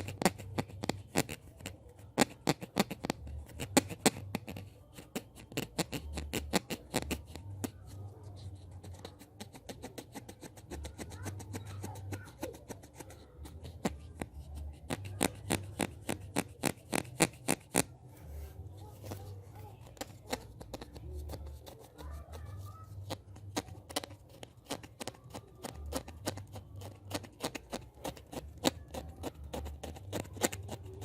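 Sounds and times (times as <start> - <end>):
rapid crisp clicks and taps: 0.0 - 18.0, 18.8 - 31.0.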